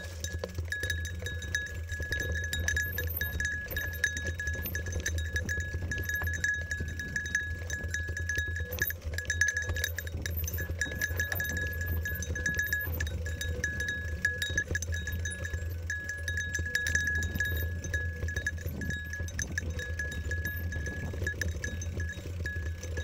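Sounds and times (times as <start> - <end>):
bike clicks and rattles: 0.0 - 23.0
high metallic ringing: 0.0 - 23.0
wind and tyre rumble: 0.0 - 23.0.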